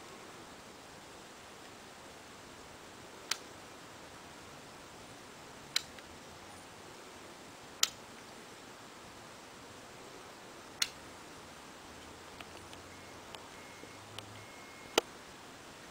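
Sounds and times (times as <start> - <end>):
faint steady hiss: 0.0 - 15.9.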